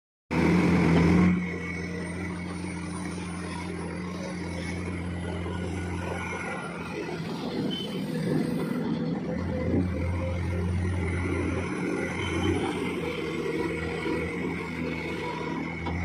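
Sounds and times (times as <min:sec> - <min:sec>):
excavator diesel engine running: 0:00.3 - 0:16.0.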